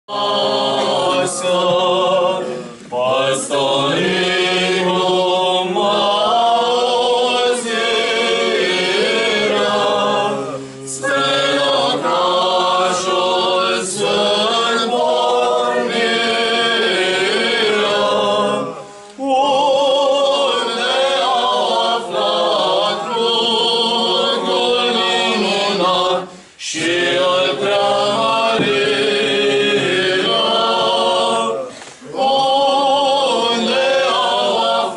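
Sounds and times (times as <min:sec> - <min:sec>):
choir singing a cappella: 0:00.0 - 0:34.9.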